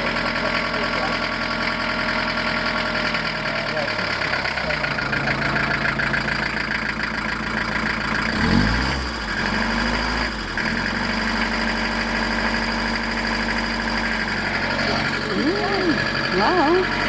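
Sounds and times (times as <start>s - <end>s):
van engine idling and revving: 0.0s - 17.0s.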